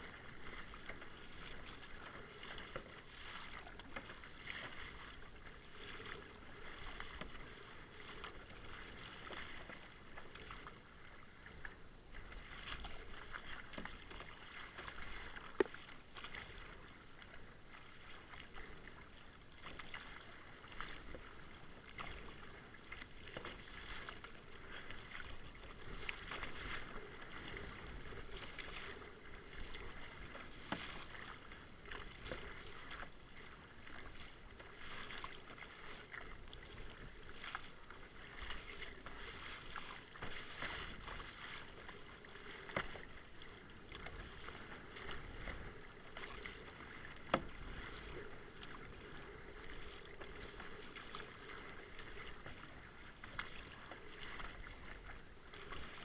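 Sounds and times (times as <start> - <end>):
paddle splashing in water: 0.0 - 56.0
water washing along hull: 0.0 - 56.0.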